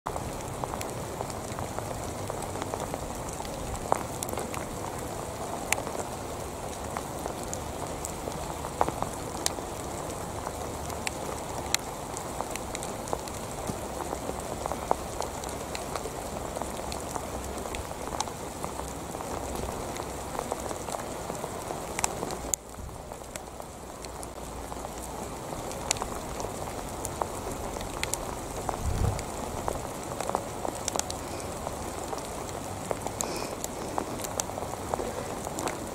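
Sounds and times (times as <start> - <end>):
sharp raindrop ticks: 0.1 - 35.9
steady rain: 0.1 - 35.9.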